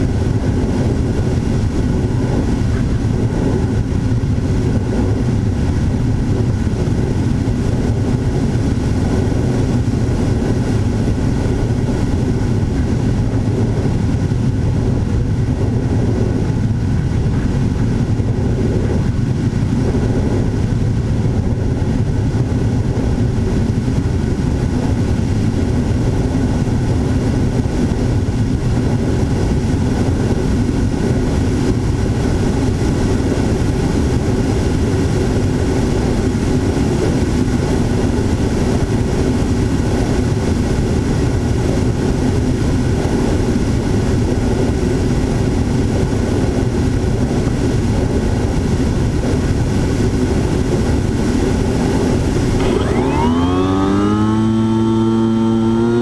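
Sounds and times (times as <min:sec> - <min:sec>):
model aircraft motor and propeller: 0:00.0 - 0:56.0.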